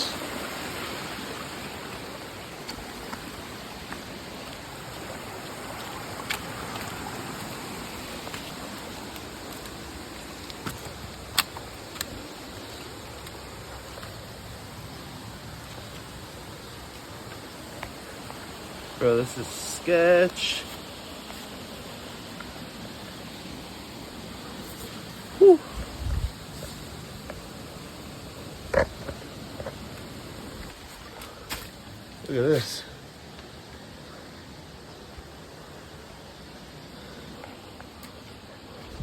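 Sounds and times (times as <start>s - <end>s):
steady rushing outdoor noise: 0.0s - 39.0s.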